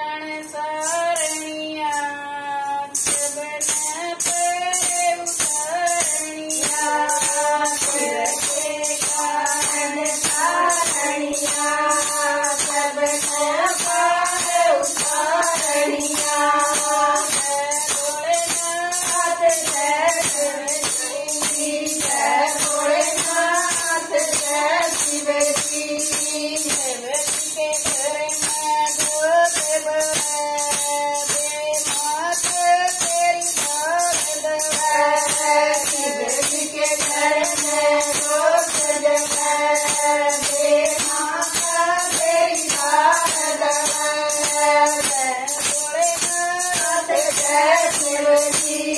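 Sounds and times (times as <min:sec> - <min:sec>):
women singing in unison: 0:00.0 - 0:48.9
jingling percussion beat: 0:00.2 - 0:48.9.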